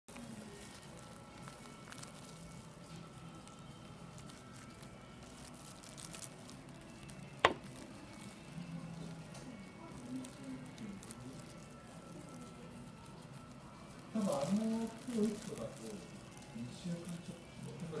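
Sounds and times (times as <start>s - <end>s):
plastic glove rustling: 0.1s - 18.0s.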